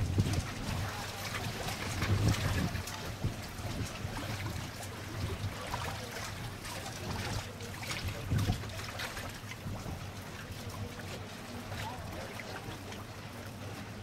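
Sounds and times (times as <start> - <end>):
water lapping and trickling: 0.0 - 14.0.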